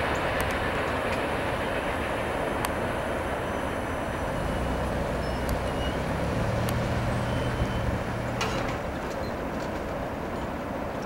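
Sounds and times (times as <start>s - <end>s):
freight train rolling on rails: 0.0s - 11.0s
low engine hum: 0.0s - 11.0s.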